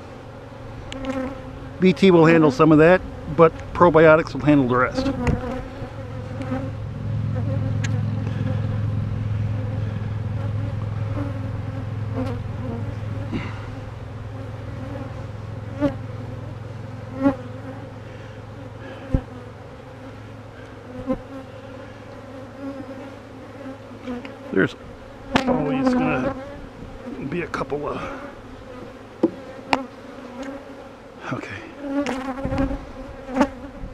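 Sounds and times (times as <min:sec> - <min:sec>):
honeybees buzzing: 0:00.0 - 0:33.9.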